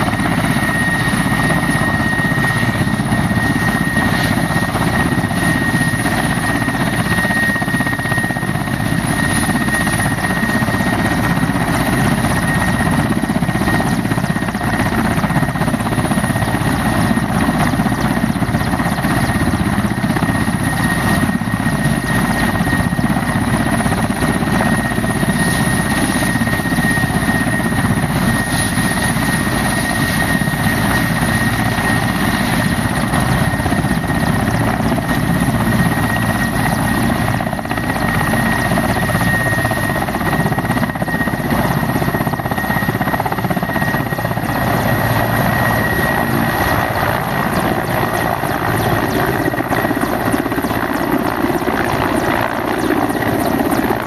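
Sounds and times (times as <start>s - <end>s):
helicopter rotor and engine: 0.0s - 54.0s
turbine whine: 0.0s - 54.0s.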